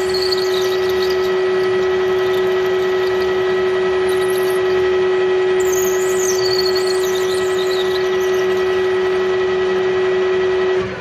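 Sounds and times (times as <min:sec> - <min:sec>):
drill scraping metal: 0:00.0 - 0:09.4
metal lathe whine: 0:00.0 - 0:11.0.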